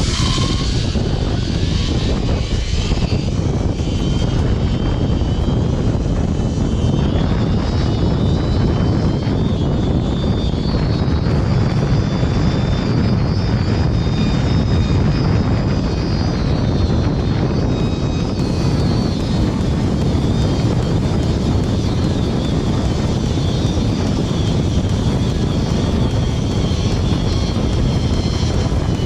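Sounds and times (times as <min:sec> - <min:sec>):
wind rushing on microphone: 0:00.0 - 0:29.0
zipline trolley on cable whining: 0:00.0 - 0:29.0.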